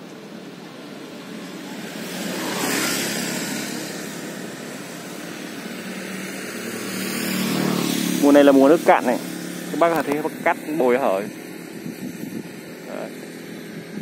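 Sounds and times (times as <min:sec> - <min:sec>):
traffic approaching: 0:00.0 - 0:14.0
vehicle passing: 0:00.0 - 0:14.0.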